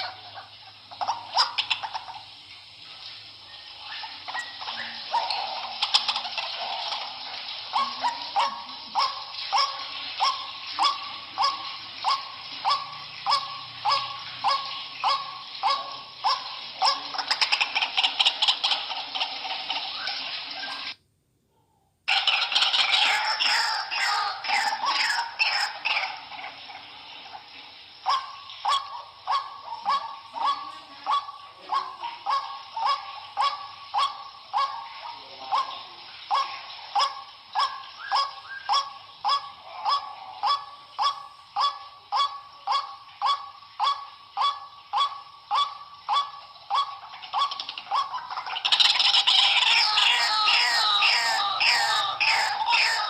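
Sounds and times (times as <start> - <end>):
waterhen harsh honking call: 0.0 - 21.0, 22.1 - 53.0.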